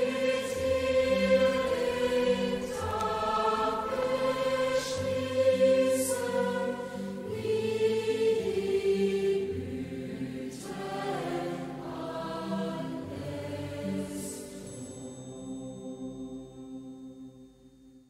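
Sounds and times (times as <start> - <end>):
slow choral singing: 0.0 - 17.4.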